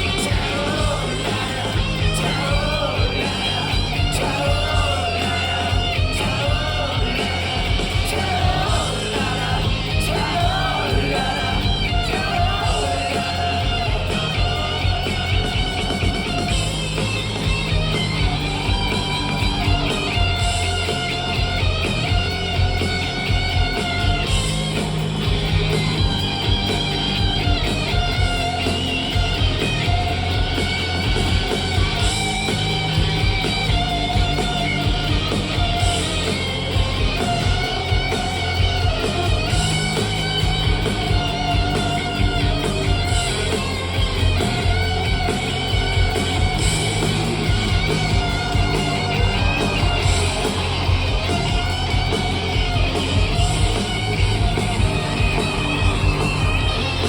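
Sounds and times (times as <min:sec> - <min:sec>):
rock band with electric guitar: 0:00.0 - 0:57.0.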